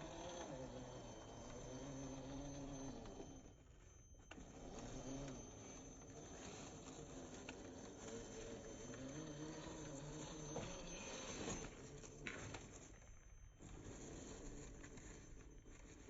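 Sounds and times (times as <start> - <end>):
electric motor and gearbox whining: 0.0 - 16.0.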